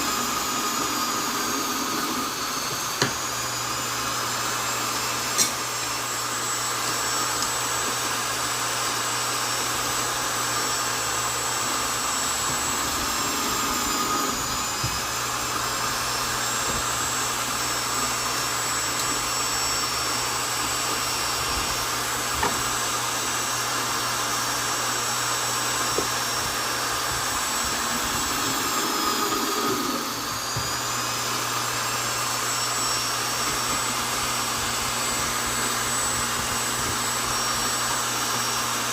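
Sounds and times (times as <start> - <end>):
electric drill drilling into wood: 0.0 - 38.9.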